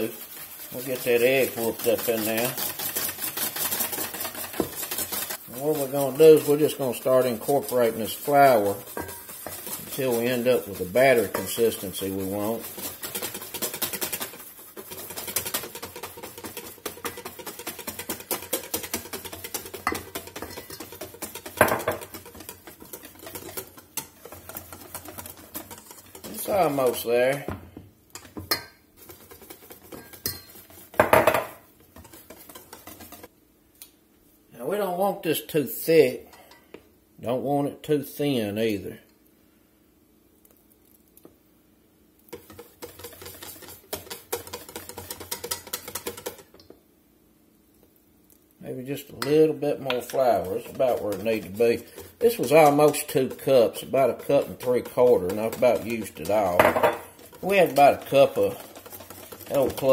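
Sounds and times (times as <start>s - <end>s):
whisk clinking on metal bowl: 0.0s - 33.3s, 42.3s - 46.8s, 48.8s - 59.9s
whisk beating batter in metal bowl: 0.0s - 33.4s, 42.3s - 46.8s, 48.6s - 59.9s.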